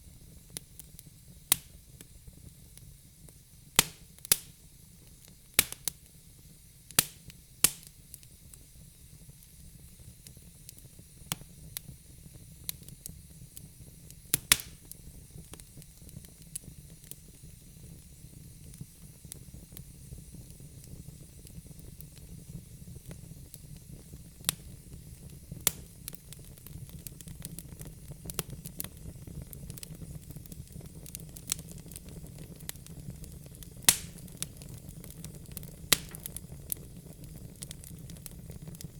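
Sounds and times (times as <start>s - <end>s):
log fire crackling and popping: 0.0s - 38.9s.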